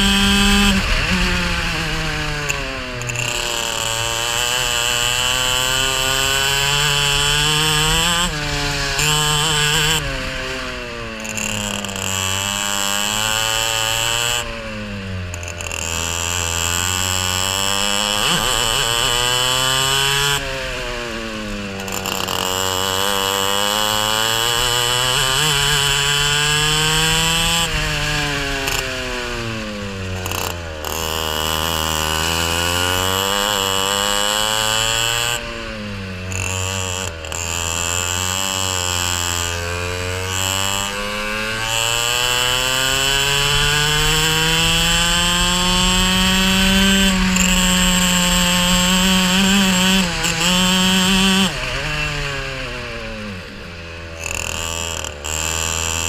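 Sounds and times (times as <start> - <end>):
racing kart engine revving: 0.0 - 56.0.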